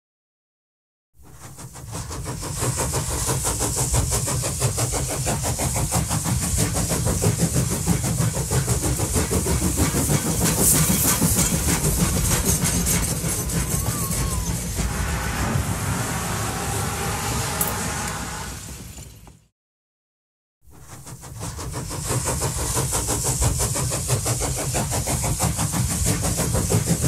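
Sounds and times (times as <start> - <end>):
steam hissing: 1.2 - 19.0, 20.8 - 27.0
steam train chuffing: 1.2 - 19.4, 20.7 - 27.0.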